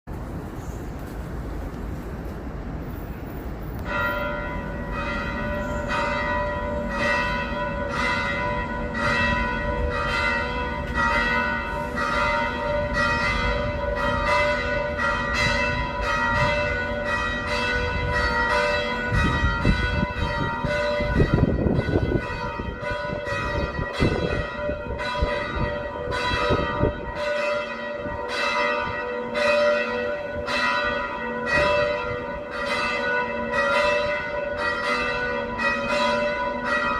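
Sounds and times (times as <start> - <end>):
church bells ringing: 3.8 - 36.9.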